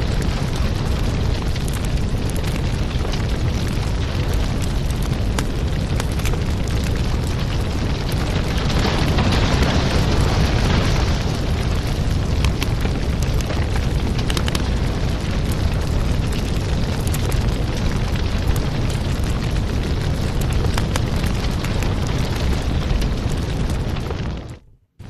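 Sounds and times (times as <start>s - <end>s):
fire roaring: 0.0s - 24.7s
fire snaps and pops: 0.0s - 24.7s.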